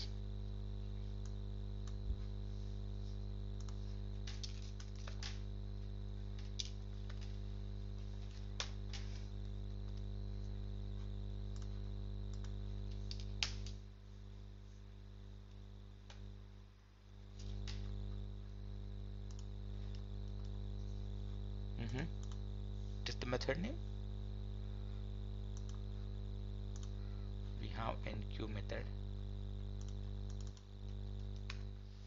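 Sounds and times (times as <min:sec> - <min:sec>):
steady electrical hum: 0:00.0 - 0:32.0.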